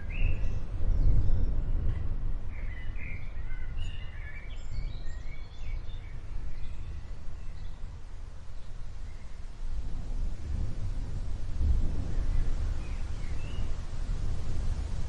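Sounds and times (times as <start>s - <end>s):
songbirds chirping: 0.0s - 9.8s, 10.4s - 15.0s
low storm rumble: 0.0s - 15.0s.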